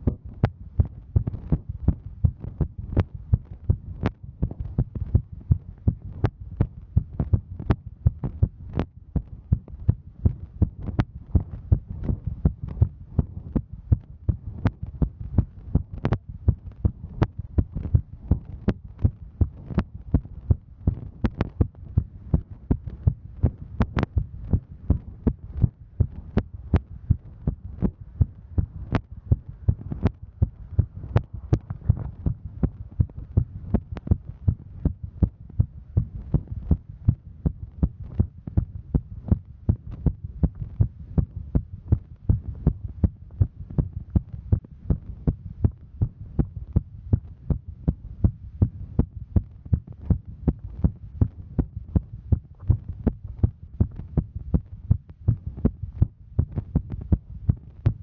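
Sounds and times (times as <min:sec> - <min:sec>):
faint low hum: 0:00.0 - 0:58.0
heartbeat thuds: 0:00.0 - 0:58.0.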